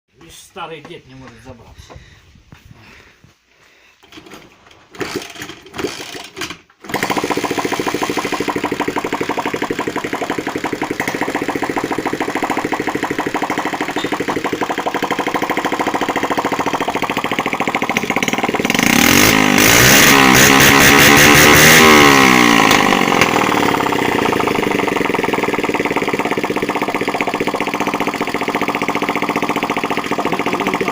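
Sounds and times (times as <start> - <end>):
moped engine running: 4.9 - 30.9.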